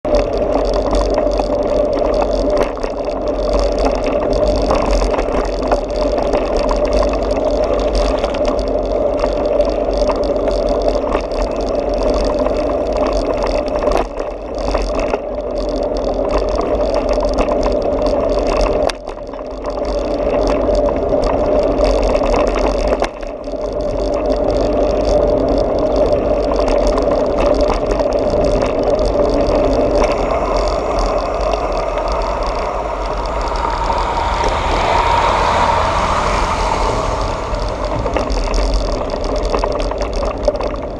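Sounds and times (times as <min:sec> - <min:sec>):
traffic: 0:00.0 - 0:40.9
wind and road noise: 0:00.0 - 0:40.9.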